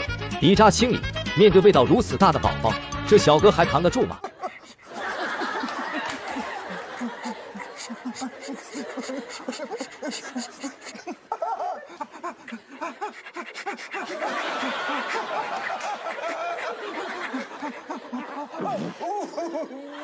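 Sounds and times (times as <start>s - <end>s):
people laughing: 1.8s - 20.0s.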